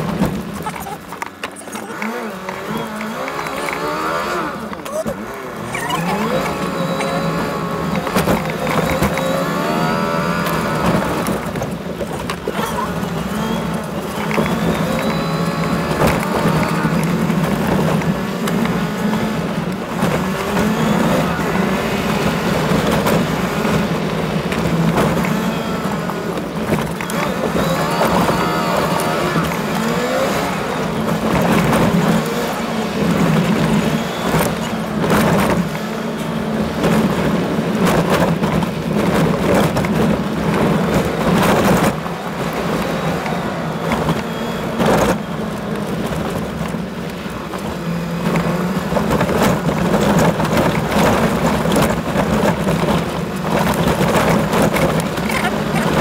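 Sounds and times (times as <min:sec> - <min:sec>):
engine drone: 0:00.0 - 0:56.0
vehicle rattles: 0:00.0 - 0:56.0.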